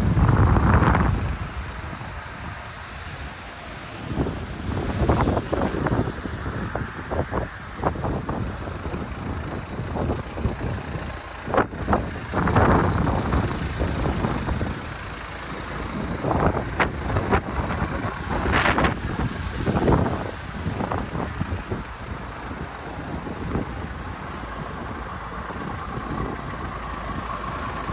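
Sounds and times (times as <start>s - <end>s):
motor vehicle running: 0.0s - 27.9s
wind buffeting microphone: 0.0s - 27.9s.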